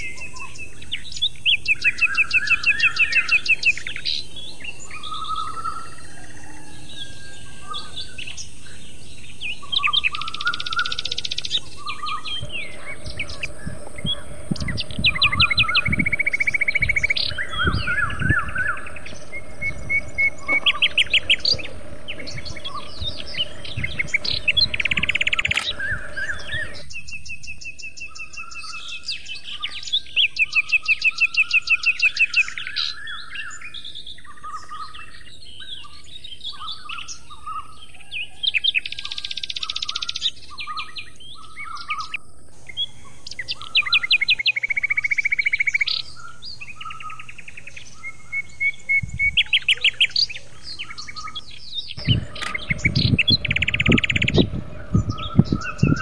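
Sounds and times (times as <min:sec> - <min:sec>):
songbirds singing and calling: 0:00.0 - 0:56.0.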